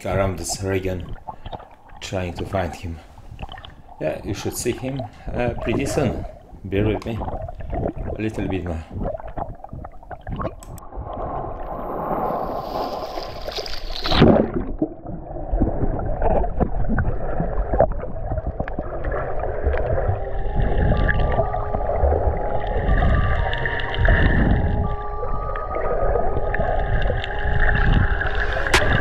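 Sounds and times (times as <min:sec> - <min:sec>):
muffled underwater gurgling: 0:00.0 - 0:13.0, 0:14.1 - 0:29.0.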